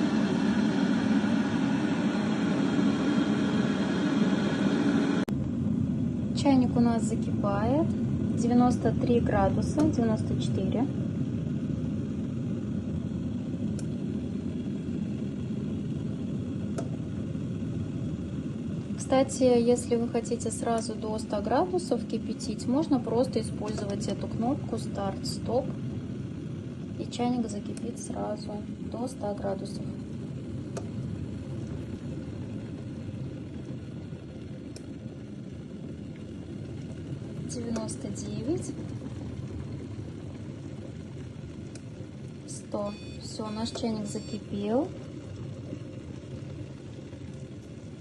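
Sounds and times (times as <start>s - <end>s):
kettle water rumbling: 0.0s - 48.0s.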